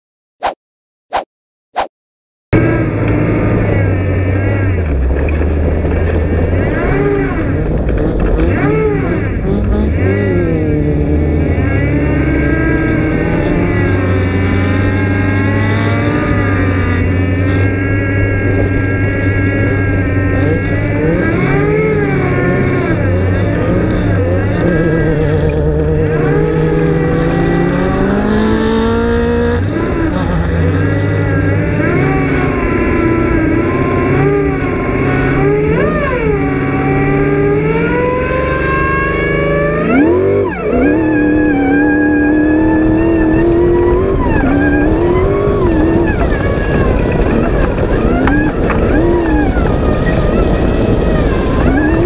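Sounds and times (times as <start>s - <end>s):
buggy engine revving: 2.6s - 52.0s.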